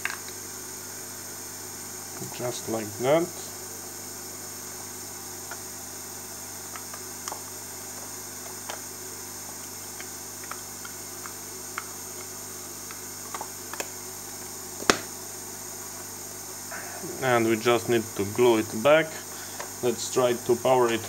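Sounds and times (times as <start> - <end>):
faint hiss and hum: 0.0 - 21.0.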